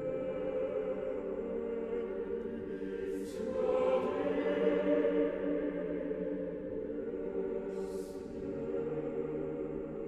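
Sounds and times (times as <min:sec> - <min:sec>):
choir singing a chant: 0:00.0 - 0:10.0.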